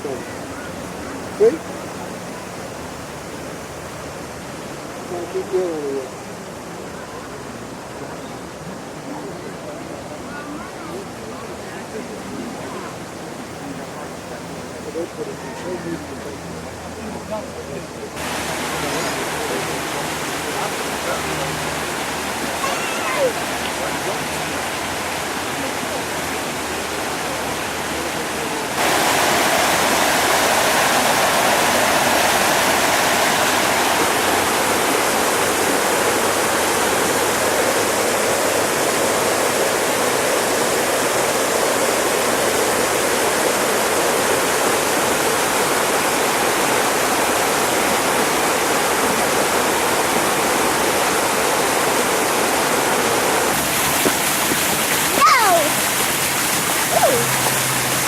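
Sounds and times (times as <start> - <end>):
waterfall splashing: 0.0 - 58.0.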